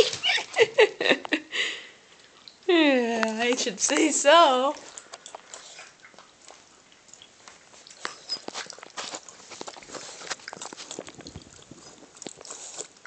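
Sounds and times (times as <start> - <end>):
dog lapping water: 2.1 - 13.0.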